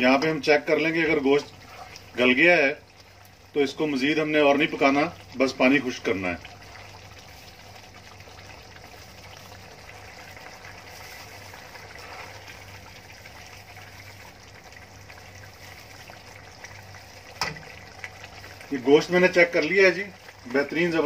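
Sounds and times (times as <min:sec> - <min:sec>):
gravy bubbling in a wok: 0:00.0 - 0:21.0.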